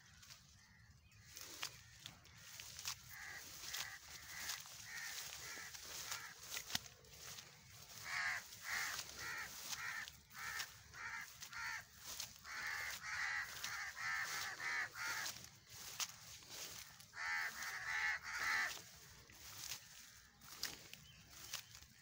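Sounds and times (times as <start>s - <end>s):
birds harsh calls: 0.0s - 22.0s.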